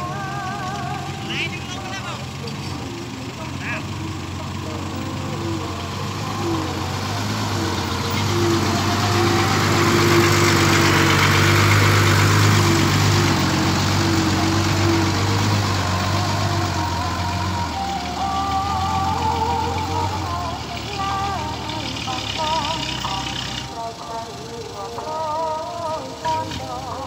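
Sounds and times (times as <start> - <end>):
diesel dump truck driving past: 0.0 - 27.0.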